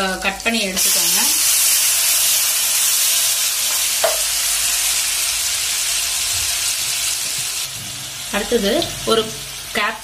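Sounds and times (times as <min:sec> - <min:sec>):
tomatoes sizzling in a frying pan: 0:00.0 - 0:10.0.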